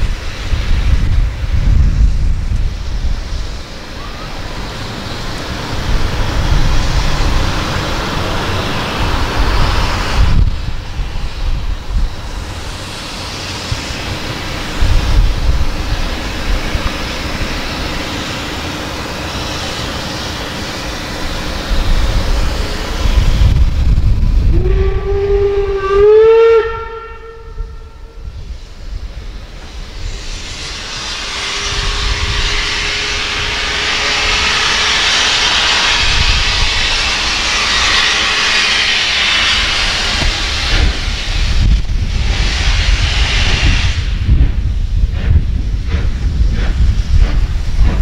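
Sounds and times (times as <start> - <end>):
steady hiss: 0.0 - 24.5, 27.6 - 48.0
heavy low rumble: 0.0 - 48.0
wind buffeting the microphone: 0.0 - 48.0.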